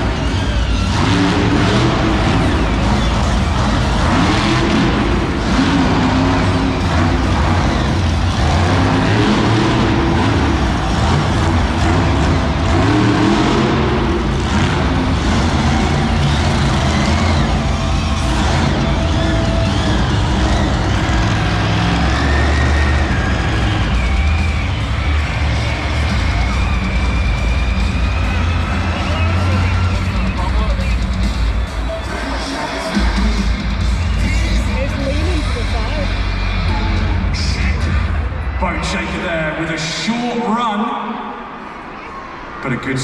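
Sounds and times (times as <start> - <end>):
truck engine revving loudly: 0.0 - 39.9.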